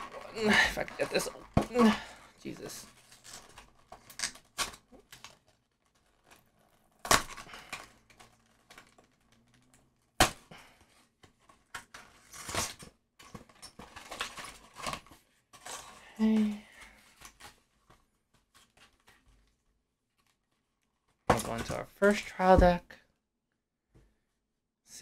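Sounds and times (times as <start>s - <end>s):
paperboard rustling and tearing: 0.0s - 21.6s.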